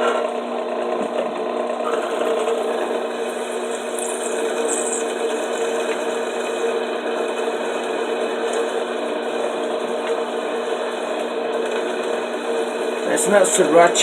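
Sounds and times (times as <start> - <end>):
drill press cutting steel: 1.8 - 14.0.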